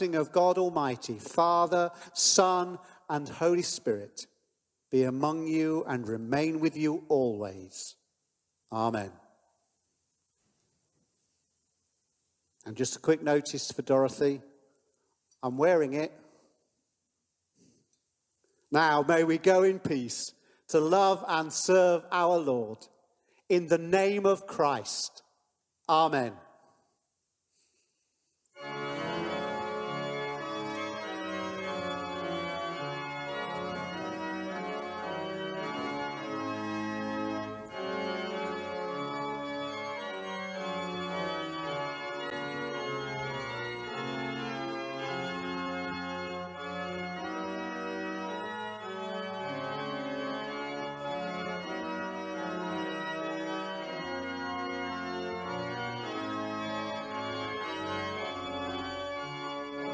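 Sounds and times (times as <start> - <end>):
organ playing sustained chords: 0.0 - 9.7, 12.6 - 16.9, 18.5 - 27.0, 28.5 - 59.9.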